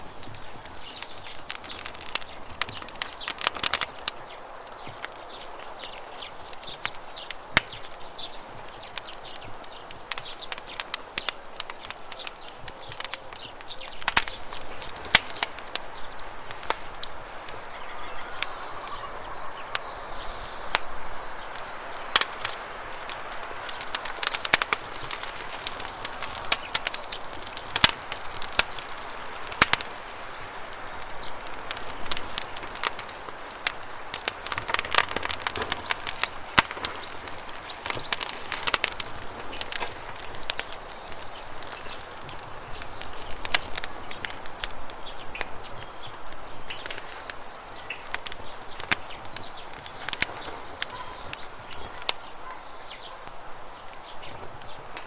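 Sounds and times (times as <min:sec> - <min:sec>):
bird chirping: 0:00.0 - 0:33.1, 0:34.2 - 0:55.0
campfire crackling and popping: 0:00.0 - 0:55.0.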